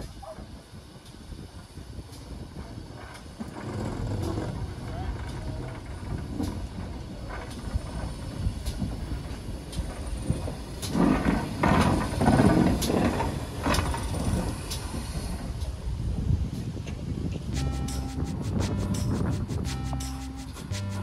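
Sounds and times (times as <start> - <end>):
rail clicks: 0.0 - 21.0
train rumbling on rails: 0.0 - 21.0.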